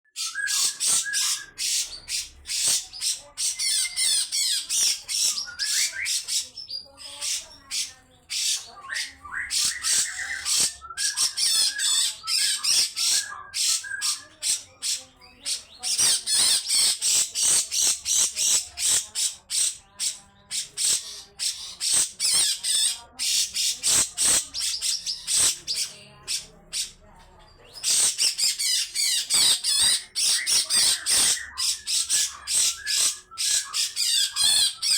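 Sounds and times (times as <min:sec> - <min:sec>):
bird harsh chattering calls: 0:00.2 - 0:34.9.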